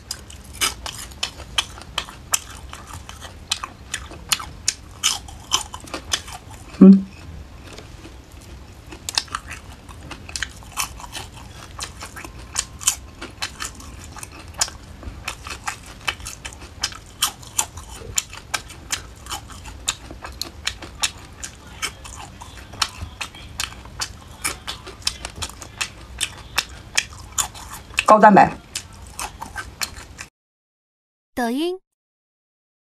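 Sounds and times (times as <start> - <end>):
crunchy food being chewed: 0.0 - 30.3.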